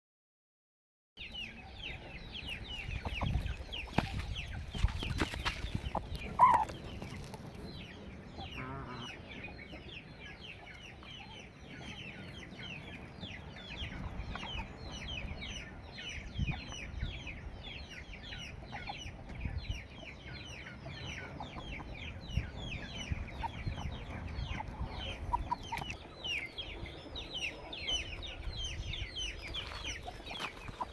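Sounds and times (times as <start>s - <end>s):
chickens calling and clucking: 1.2s - 30.9s.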